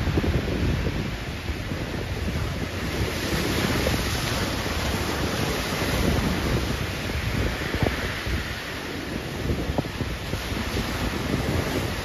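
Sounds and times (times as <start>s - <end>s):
surf breaking over rocks: 0.0s - 12.0s
wind buffeting microphone: 0.0s - 12.0s.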